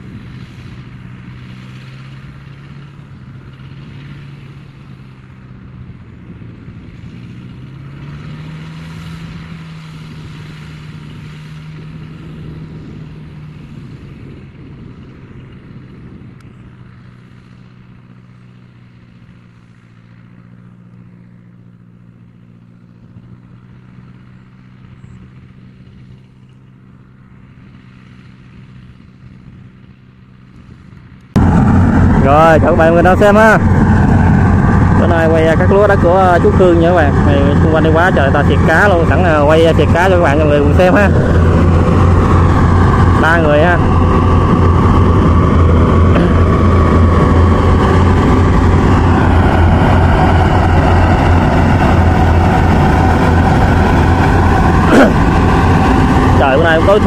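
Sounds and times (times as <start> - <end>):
farm vehicle engine running: 0.0 - 57.0.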